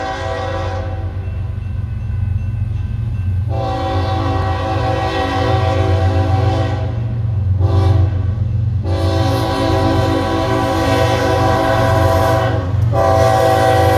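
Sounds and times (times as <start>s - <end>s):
locomotive air horn blasts: 0.0s - 1.2s, 3.5s - 13.9s
low rumble of train: 0.0s - 13.9s.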